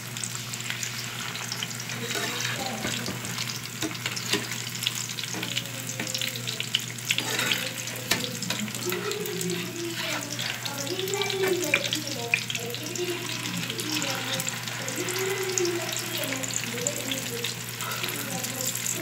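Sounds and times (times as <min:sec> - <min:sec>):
food sizzling in hot oil: 0:00.0 - 0:19.0
spattering oil crackling: 0:00.0 - 0:19.0.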